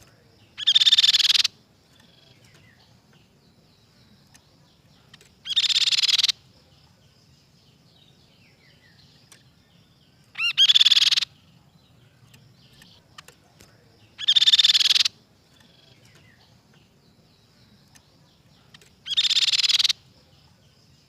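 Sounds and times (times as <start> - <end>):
bird song fast repeated notes: 0.0 - 21.0
faint bird chirps: 0.0 - 21.0.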